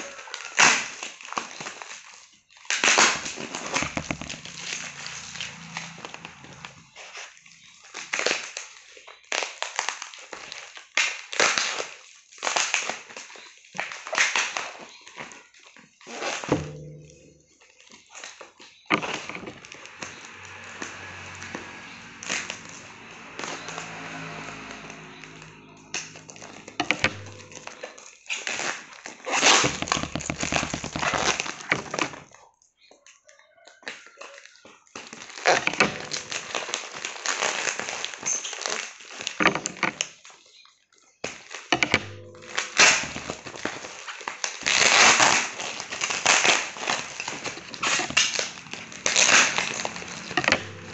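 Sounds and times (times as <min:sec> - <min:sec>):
bubble wrap rustling and crinkling: 0:00.0 - 0:16.5, 0:17.5 - 0:32.4, 0:34.5 - 0:41.7, 0:42.4 - 0:50.9.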